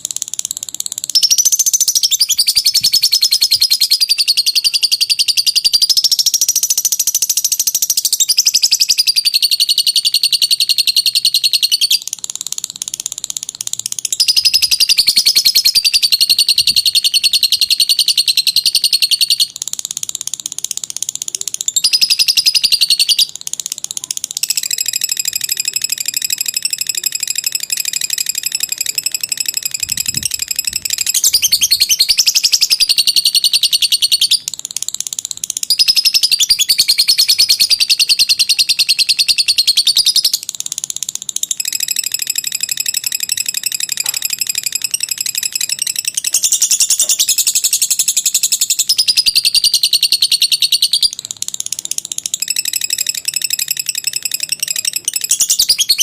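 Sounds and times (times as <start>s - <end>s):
lovebird chattering trill: 0.0s - 56.0s.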